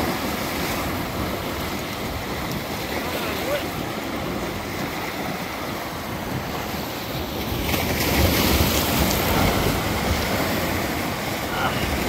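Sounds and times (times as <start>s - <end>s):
waves crashing on rocks: 0.0s - 12.0s
wind buffeting microphone: 0.0s - 12.0s.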